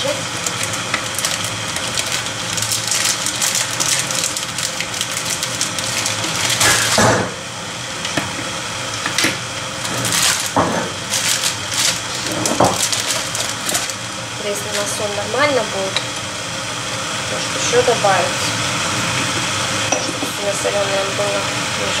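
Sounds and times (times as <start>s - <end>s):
water hissing in a pot: 0.0s - 22.0s.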